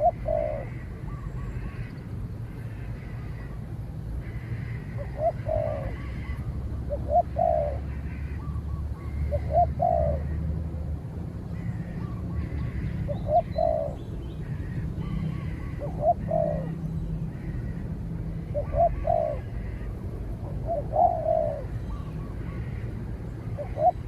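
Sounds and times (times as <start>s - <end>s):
dove cooing: 0.0s - 1.9s, 4.2s - 10.5s, 11.6s - 17.8s, 18.4s - 22.9s, 23.5s - 24.0s.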